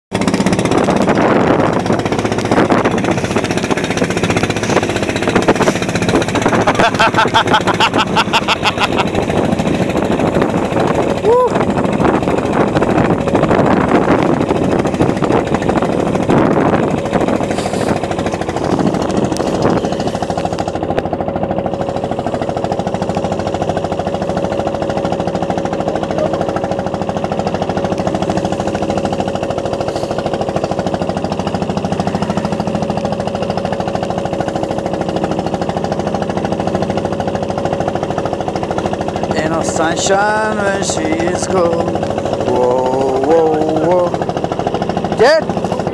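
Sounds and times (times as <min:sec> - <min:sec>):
boat engine knocking: 0:00.1 - 0:45.9.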